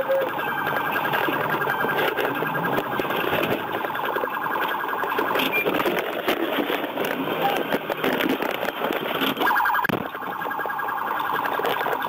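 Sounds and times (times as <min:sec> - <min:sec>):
police siren warbling: 0:00.0 - 0:12.0.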